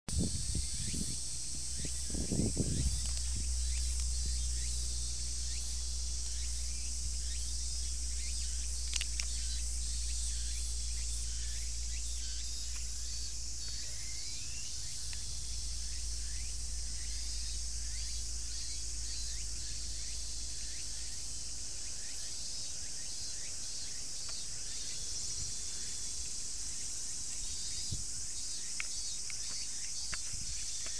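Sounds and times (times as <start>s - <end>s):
low steady rumble: 0.1s - 28.3s
cicadas buzzing: 0.1s - 30.9s.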